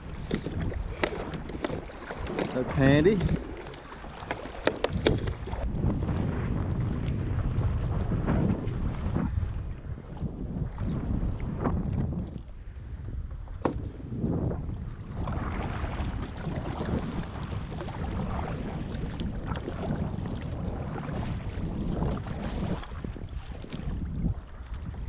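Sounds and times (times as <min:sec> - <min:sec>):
water slapping and sloshing: 0:00.0 - 0:25.0
wind buffeting microphone: 0:00.0 - 0:25.0.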